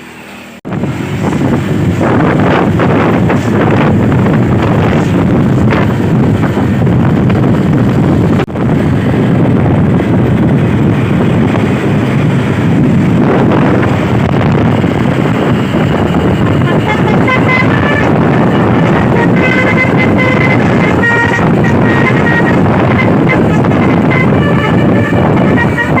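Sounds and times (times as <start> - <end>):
vehicle engine and road noise: 0.0 - 26.0
wind buffeting microphone: 0.6 - 26.0.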